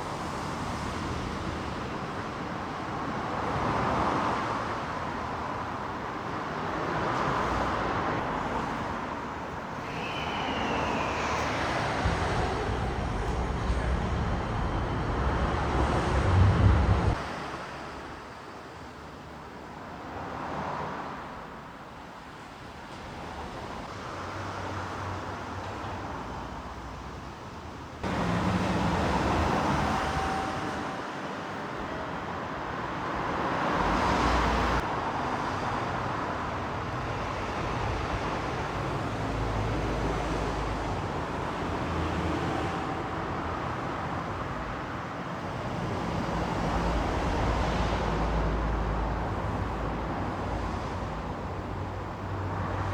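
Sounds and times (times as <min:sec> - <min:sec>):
cars passing: 0:00.0 - 0:17.8, 0:28.0 - 0:52.9.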